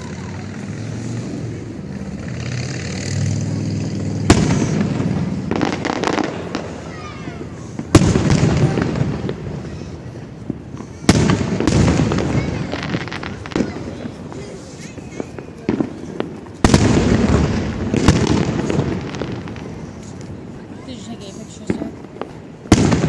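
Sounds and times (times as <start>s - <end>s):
fireworks crackling: 0.0s - 23.0s
fireworks shells rumbling: 0.0s - 23.0s
loud sharp firework bangs: 0.0s - 23.0s.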